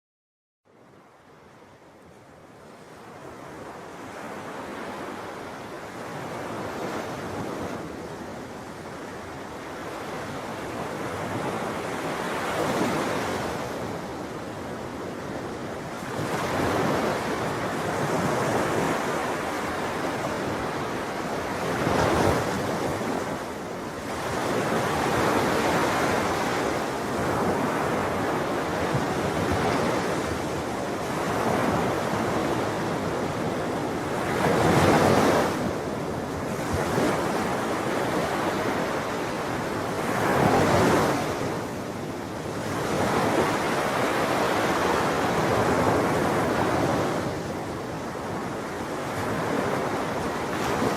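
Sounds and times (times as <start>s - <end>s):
ocean waves breaking on shore: 0.7s - 50.9s.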